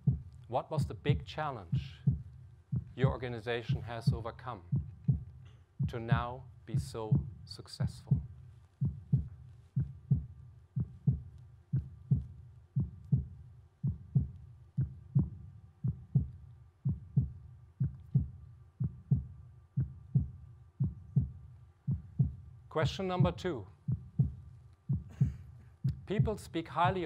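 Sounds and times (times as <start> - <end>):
heartbeat double thump: 0.0 - 27.0.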